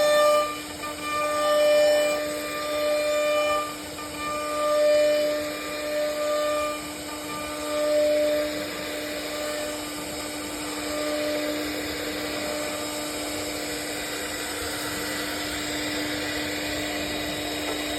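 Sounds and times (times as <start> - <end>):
hiss of wood cutting: 0.0 - 17.9
router spindle whine: 0.0 - 17.9.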